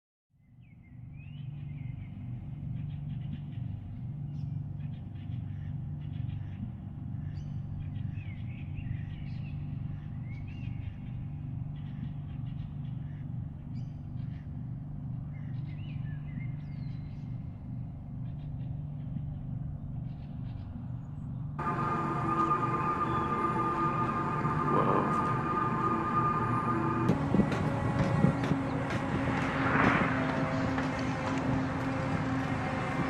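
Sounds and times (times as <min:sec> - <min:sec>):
low rumbling hum: 0:00.8 - 0:33.0.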